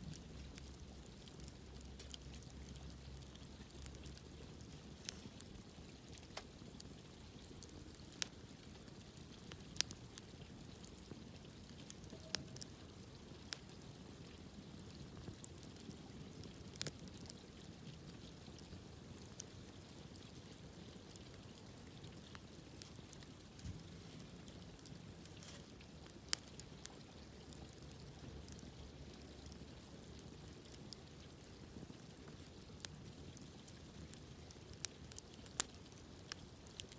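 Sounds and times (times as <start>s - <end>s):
campfire crackling and popping: 0.0s - 36.9s
faint low hiss: 0.0s - 36.9s.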